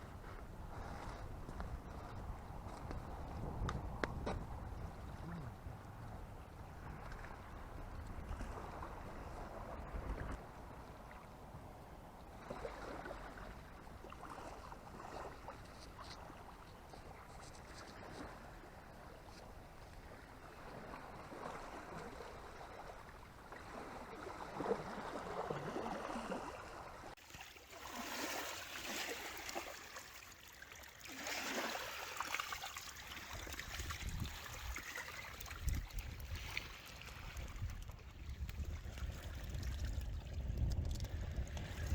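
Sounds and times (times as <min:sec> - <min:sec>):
moving water: 0:00.0 - 0:41.9.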